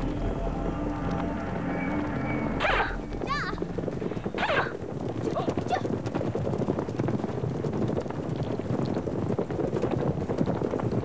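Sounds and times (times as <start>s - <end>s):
horses galloping: 0.0s - 11.0s.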